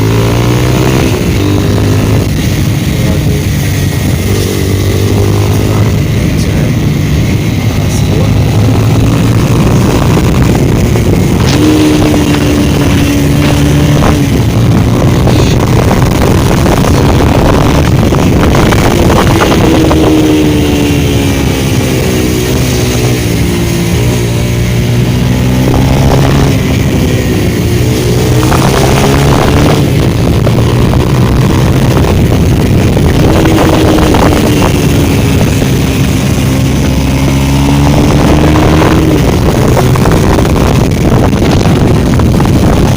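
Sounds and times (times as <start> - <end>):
motorcycle engine at speed: 0.0 - 42.9
wind noise on microphone: 0.0 - 42.9.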